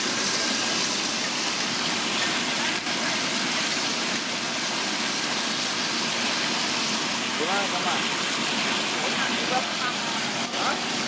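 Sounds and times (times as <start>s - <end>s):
water churning and bubbling: 0.0s - 11.0s.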